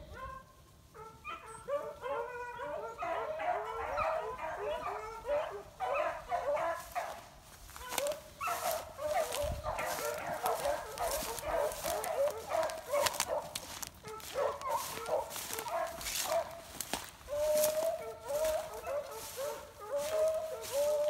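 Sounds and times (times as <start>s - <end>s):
dogs baying: 0.1s - 21.0s
dry brush crackling: 3.1s - 21.0s.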